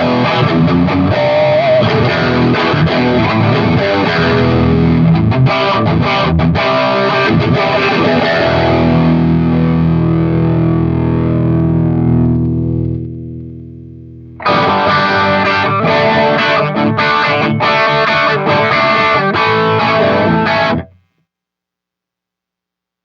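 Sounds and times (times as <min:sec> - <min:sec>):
distorted electric guitar chords: 0:00.0 - 0:21.2.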